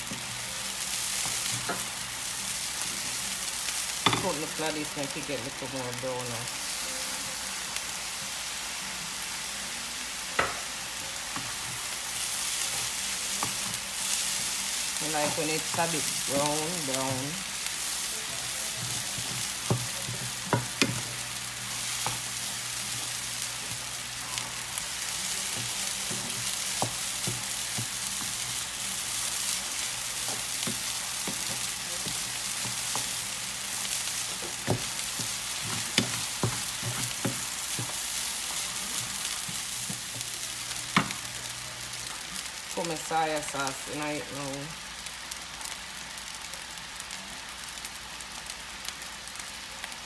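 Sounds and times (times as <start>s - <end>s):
rice sizzling in a skillet: 0.0s - 50.0s.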